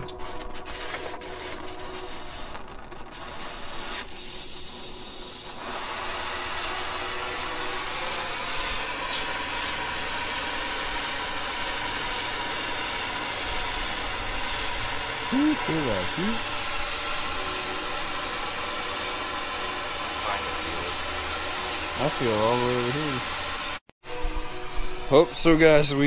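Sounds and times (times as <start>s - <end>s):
torch flame hissing: 0.0s - 23.9s.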